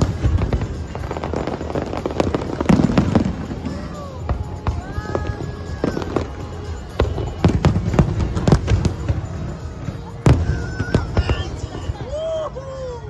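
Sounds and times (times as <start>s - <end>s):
fireworks bursting: 0.0s - 12.8s.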